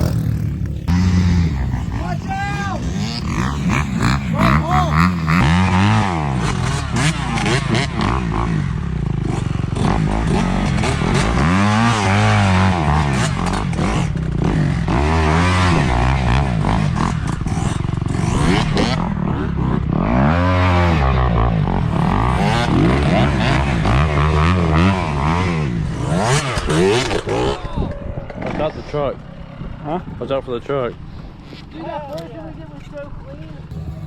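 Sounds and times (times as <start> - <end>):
vehicle engine revving: 0.0 - 27.4, 33.7 - 34.0.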